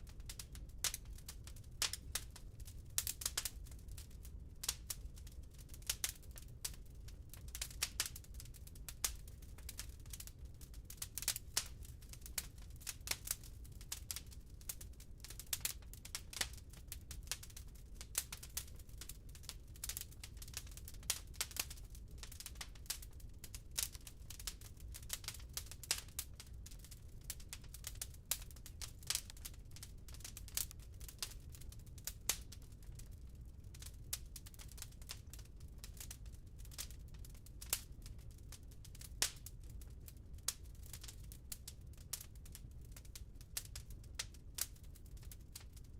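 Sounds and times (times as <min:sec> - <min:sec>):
firewood crackling and popping: 0:00.0 - 0:45.9
low fire rumble: 0:00.0 - 0:45.9.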